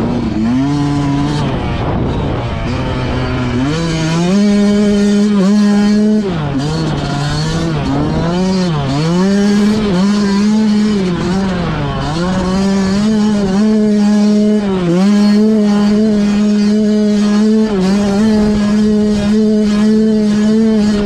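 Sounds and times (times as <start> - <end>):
two-stroke engine revving hard: 0.0 - 21.0.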